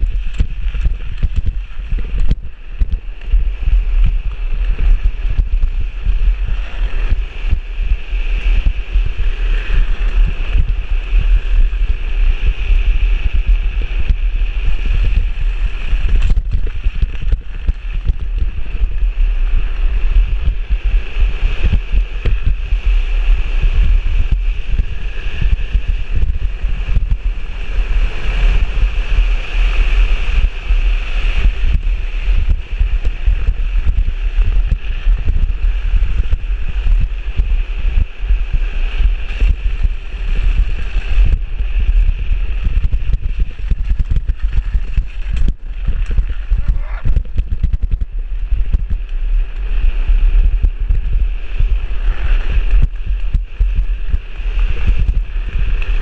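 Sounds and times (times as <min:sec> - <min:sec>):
plastic wheels sliding on asphalt: 0:00.0 - 0:56.0
wind buffeting microphone: 0:00.0 - 0:56.0.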